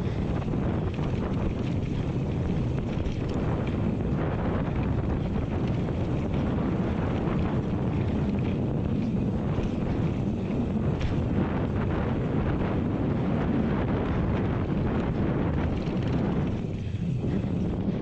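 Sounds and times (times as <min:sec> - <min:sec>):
bike rattles: 0:00.0 - 0:18.0
tyres rumbling on dirt: 0:00.0 - 0:18.0
wind buffeting microphone: 0:00.0 - 0:18.0.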